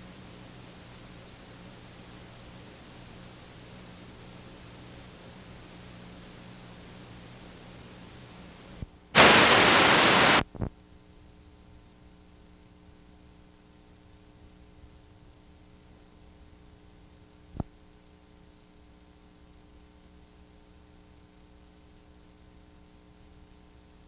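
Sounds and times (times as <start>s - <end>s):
videotape hiss and hum: 0.0s - 24.0s.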